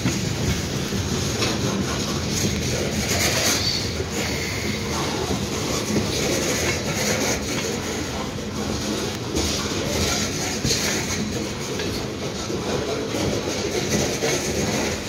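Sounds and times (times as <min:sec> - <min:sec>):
steel wheels rumbling on rail: 0:00.0 - 0:15.0
wheels clacking over rail joints: 0:00.0 - 0:15.0.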